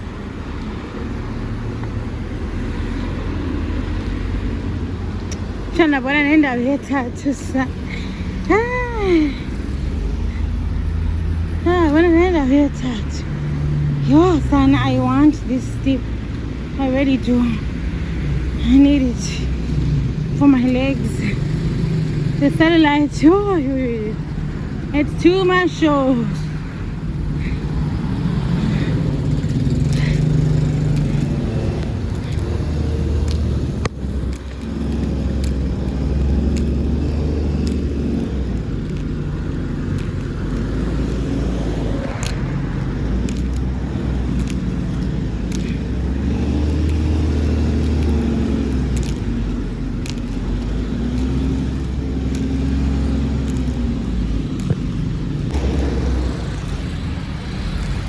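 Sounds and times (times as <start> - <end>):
cars driving past: 0.0 - 58.0.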